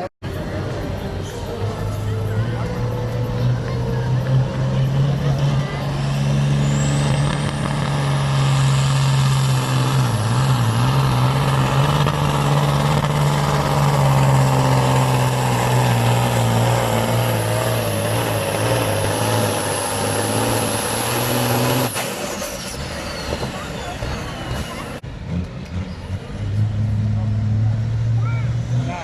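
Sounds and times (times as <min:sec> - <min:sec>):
diesel engine running hard: 0:00.0 - 0:29.0.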